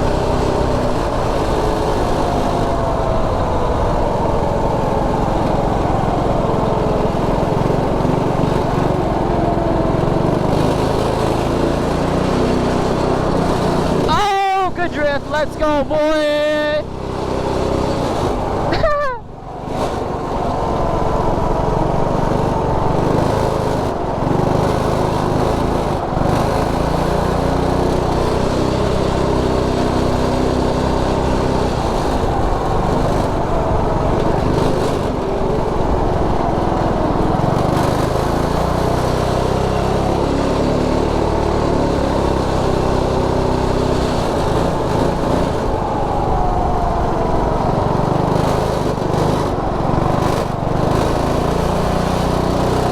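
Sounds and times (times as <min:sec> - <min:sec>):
go-kart engine revving: 0:00.0 - 0:52.9.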